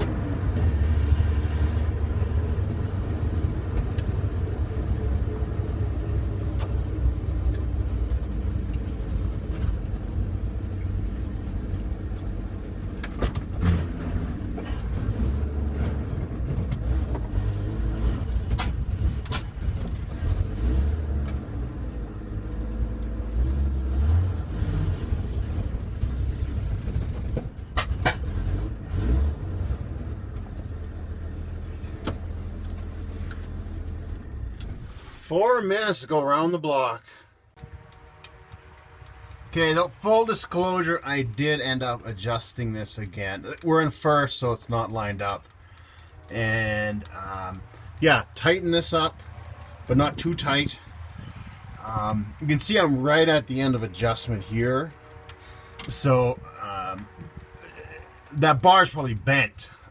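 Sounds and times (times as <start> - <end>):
pickup engine rumbling: 0.0 - 36.0, 37.3 - 59.9.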